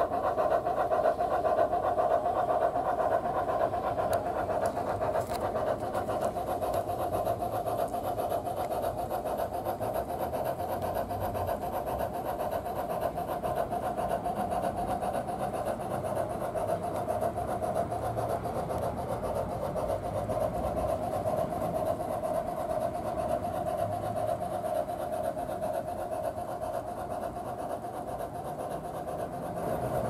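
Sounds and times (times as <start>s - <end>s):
steam locomotive chuffing: 0.0s - 30.0s.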